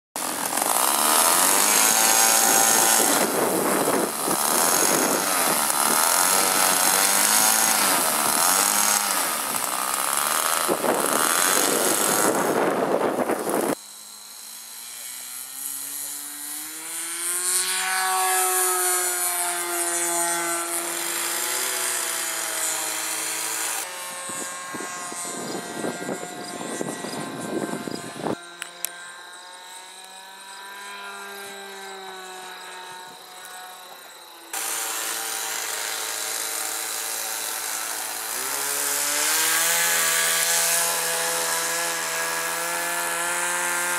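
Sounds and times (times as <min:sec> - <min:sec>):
model airplane engine running: 0:00.2 - 0:43.9.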